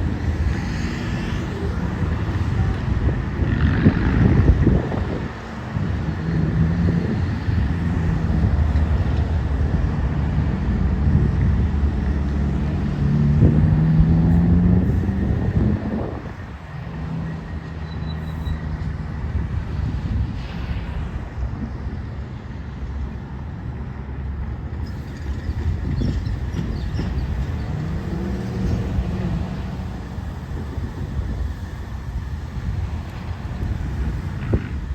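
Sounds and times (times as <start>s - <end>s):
freight train rumbling past: 0.0s - 34.9s
low engine hum: 0.0s - 34.9s.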